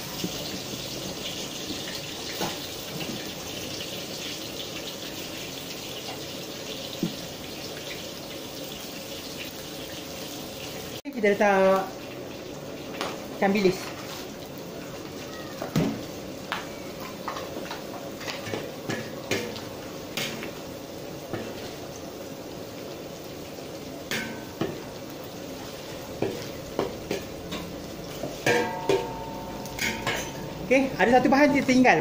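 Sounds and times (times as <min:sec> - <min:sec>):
fish sizzling in hot oil: 0:00.0 - 0:32.0.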